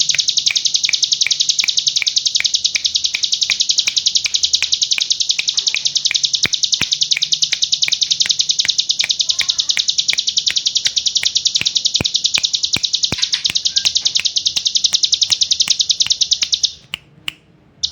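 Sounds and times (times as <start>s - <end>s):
bird singing high trill: 0.0s - 16.9s.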